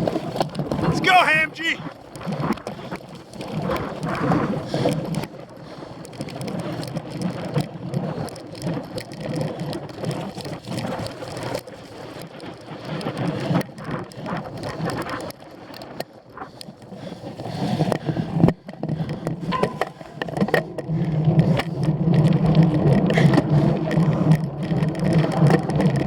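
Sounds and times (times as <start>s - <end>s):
bicycle rattling over rough ground: 0.0s - 0.9s, 1.9s - 26.0s.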